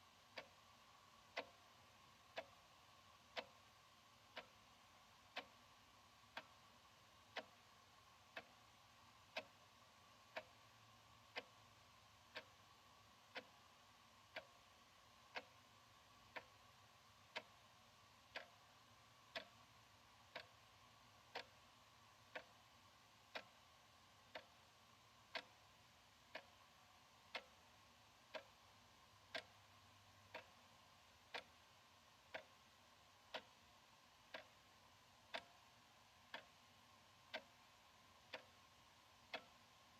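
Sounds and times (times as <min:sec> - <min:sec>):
wall clock ticking: 0:00.0 - 0:39.9.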